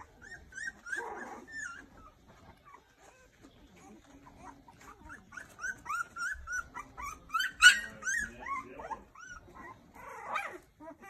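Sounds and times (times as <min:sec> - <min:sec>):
puppies squeaking and whimpering: 0:00.0 - 0:11.0.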